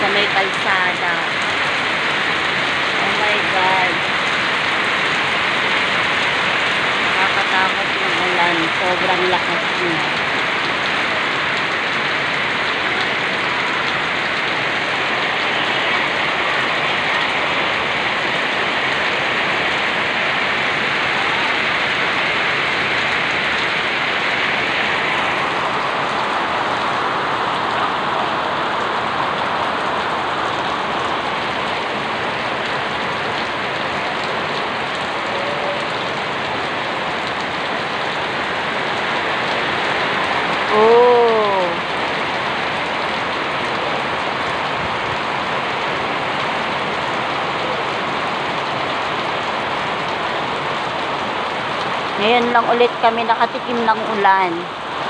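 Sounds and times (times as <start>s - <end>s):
heavy rain on concrete: 0.0s - 55.0s.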